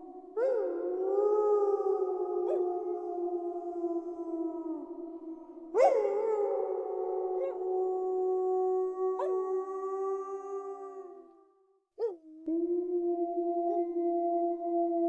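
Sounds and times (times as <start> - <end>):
wolves howling: 0.4 - 11.2, 12.0 - 15.0.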